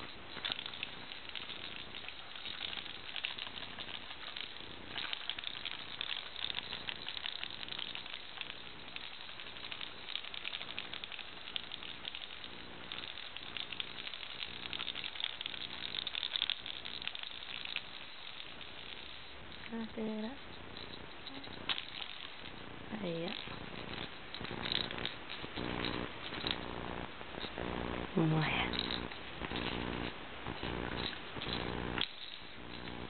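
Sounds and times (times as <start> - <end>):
crackling and rustling: 0.0 - 33.0.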